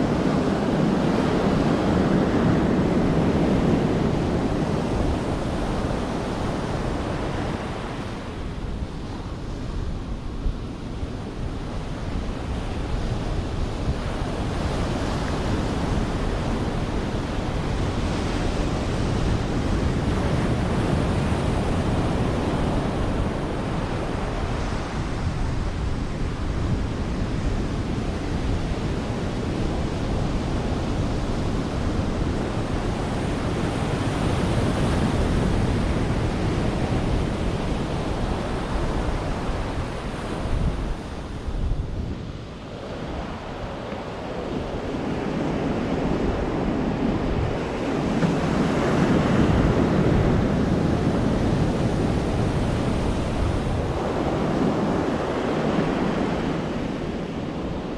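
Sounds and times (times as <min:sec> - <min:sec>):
ocean waves breaking on beach: 0:00.0 - 0:57.9
wind on microphone: 0:00.0 - 0:57.9.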